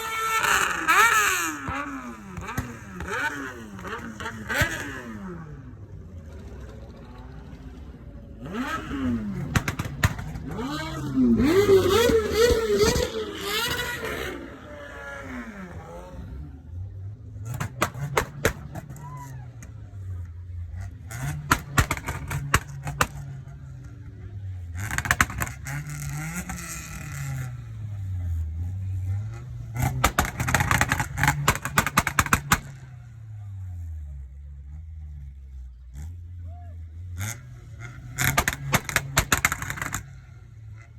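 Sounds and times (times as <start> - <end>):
car engine revving: 0.0 - 40.9
exhaust crackling: 0.0 - 40.9.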